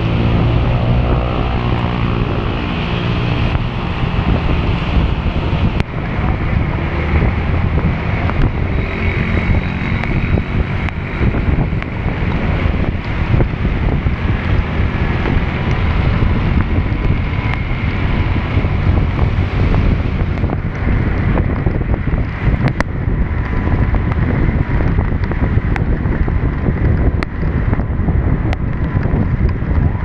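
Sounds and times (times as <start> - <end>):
heavy rain: 0.0 - 30.0
wind rumble on microphone: 0.0 - 30.0.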